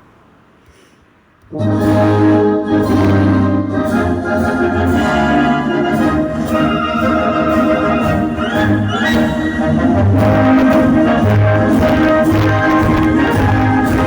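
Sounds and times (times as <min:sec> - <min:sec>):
loud music with brass and bass: 0:01.6 - 0:14.0.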